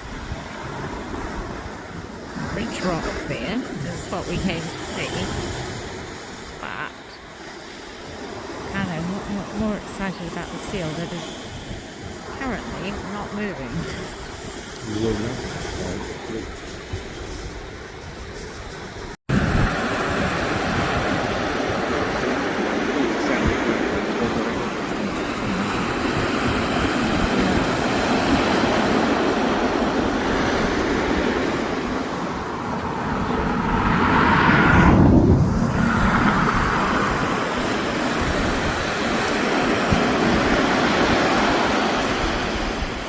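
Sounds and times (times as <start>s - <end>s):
surf breaking on beach: 0.0s - 43.0s
wind rumbling on microphone: 0.0s - 43.0s.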